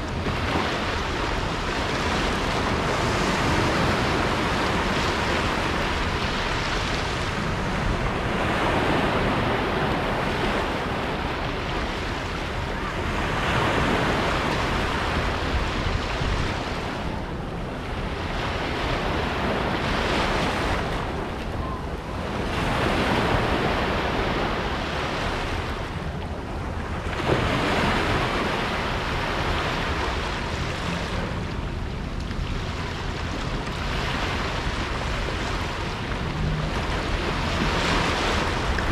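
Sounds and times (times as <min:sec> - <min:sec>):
sea waves washing over sand: 0:00.0 - 0:38.9
wind rumble on microphone: 0:00.0 - 0:38.9.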